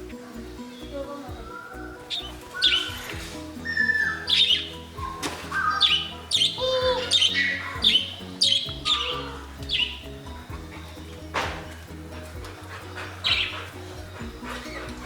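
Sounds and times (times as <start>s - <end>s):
background music: 0.0s - 15.0s
budgerigars chirping and squawking: 0.7s - 15.0s.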